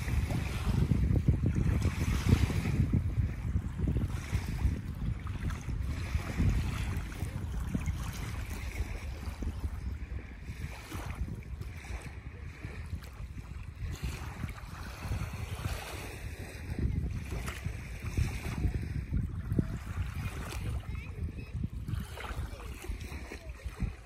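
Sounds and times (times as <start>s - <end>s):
small waves lapping on sand: 0.0s - 24.0s
wind buffeting microphone: 0.0s - 24.0s.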